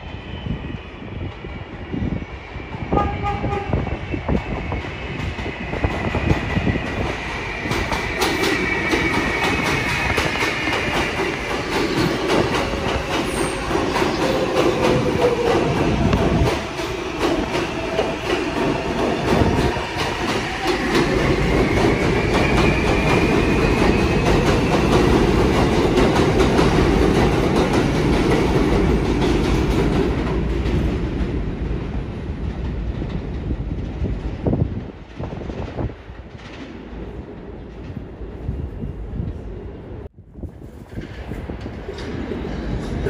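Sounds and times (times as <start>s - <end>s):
subway train rumble: 0.0s - 43.0s.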